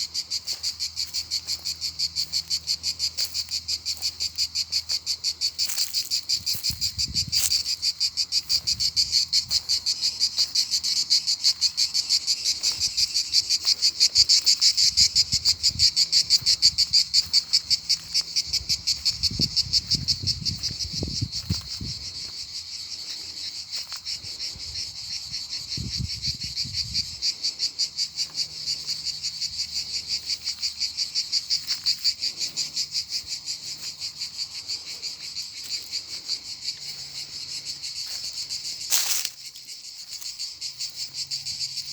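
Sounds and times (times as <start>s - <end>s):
frogs or insects calling: 0.0s - 41.9s.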